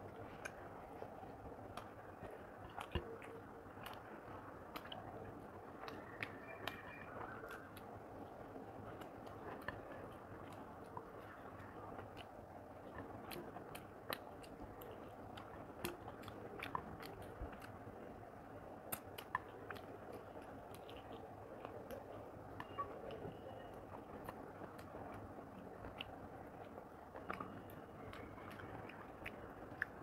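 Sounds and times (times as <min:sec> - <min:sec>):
person chewing wetly: 0:00.0 - 0:30.0.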